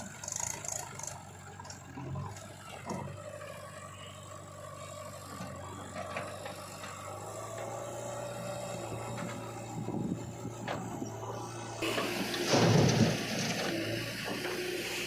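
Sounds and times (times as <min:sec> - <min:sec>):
machinery rattling and clatter: 0:00.0 - 0:03.5, 0:04.6 - 0:15.0
diesel engine running: 0:00.0 - 0:15.0.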